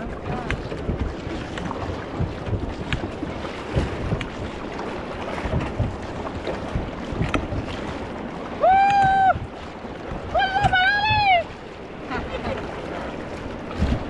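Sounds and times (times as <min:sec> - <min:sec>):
rushing river water: 0:00.0 - 0:14.0
splashes and knocks: 0:00.0 - 0:14.0
wind on microphone: 0:00.0 - 0:14.0.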